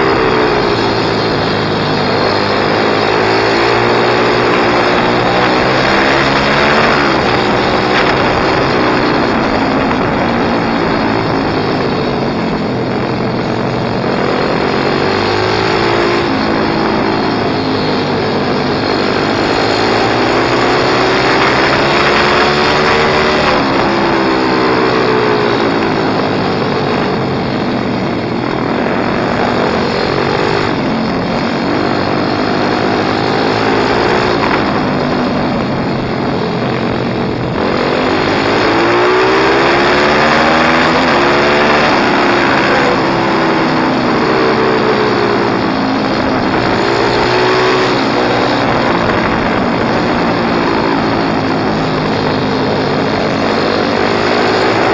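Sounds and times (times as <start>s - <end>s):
pit bike engine revving: 0.0s - 54.9s.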